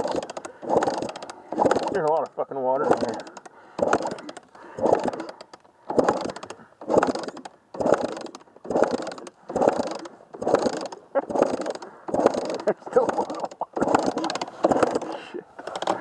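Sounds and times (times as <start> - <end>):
kick-starter ratcheting clicks: 0.0 - 16.0.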